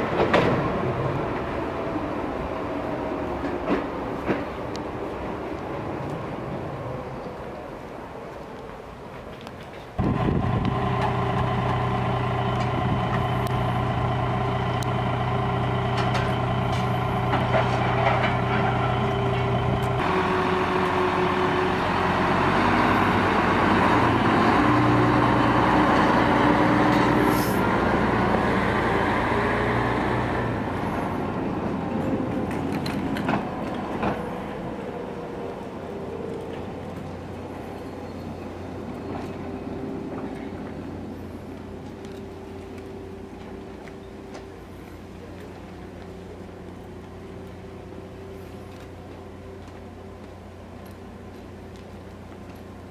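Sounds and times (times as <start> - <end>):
diesel engine running: 10.0 - 52.9.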